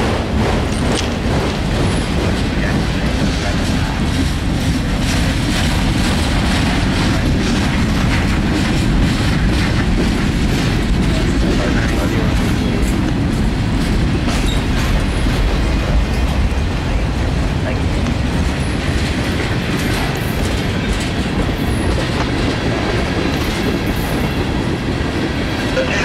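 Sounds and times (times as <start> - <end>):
wheels clicking over rails: 0.0 - 16.6, 17.9 - 26.0
freight train rumbling past: 0.0 - 26.0.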